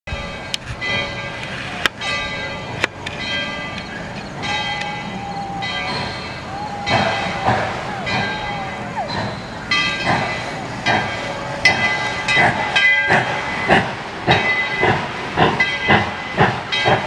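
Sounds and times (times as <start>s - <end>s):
locomotive bell ringing: 0.1s - 17.0s.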